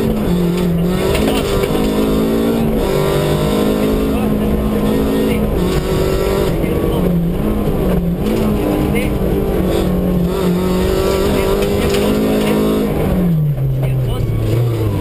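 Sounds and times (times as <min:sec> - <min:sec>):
car engine revving: 0:00.0 - 0:15.0
road and tyre noise: 0:00.0 - 0:15.0.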